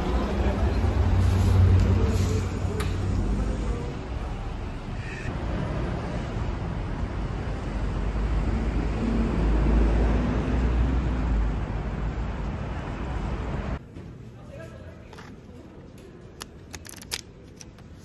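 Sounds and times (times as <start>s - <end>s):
road traffic rumble: 0.0s - 16.6s.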